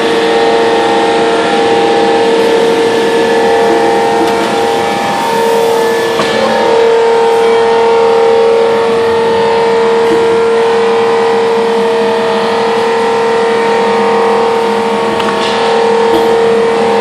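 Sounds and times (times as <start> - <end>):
punch press machine drone: 0.0 - 17.0.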